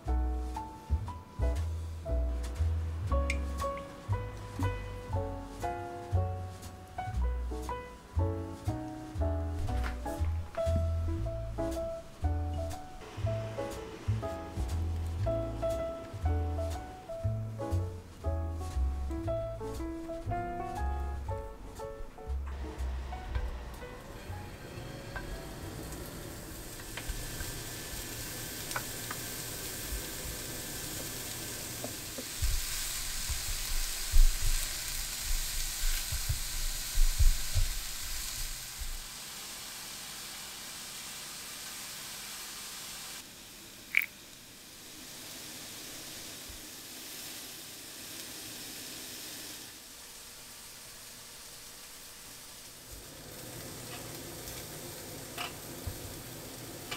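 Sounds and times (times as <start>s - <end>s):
root slices sizzling in pan: 0.0s - 22.0s, 22.6s - 56.9s.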